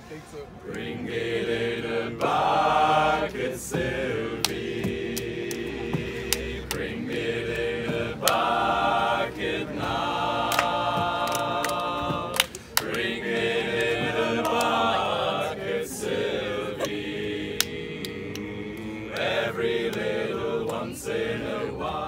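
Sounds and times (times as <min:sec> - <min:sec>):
group singing unaccompanied: 0:00.6 - 0:22.0.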